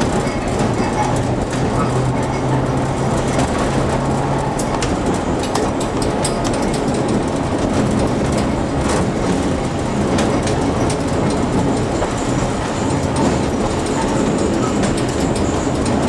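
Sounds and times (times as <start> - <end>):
streetcar wheels rumbling on rail: 0.0 - 16.0.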